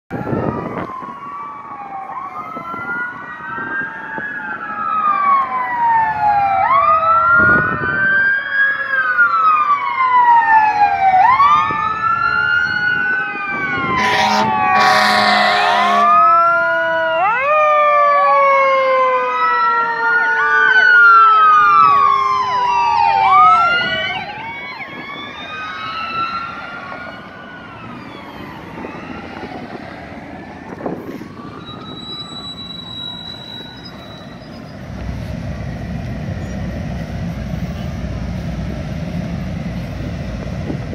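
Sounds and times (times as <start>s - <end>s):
fire engine sirens wailing: 0.1s - 40.9s
passing traffic: 0.1s - 40.9s.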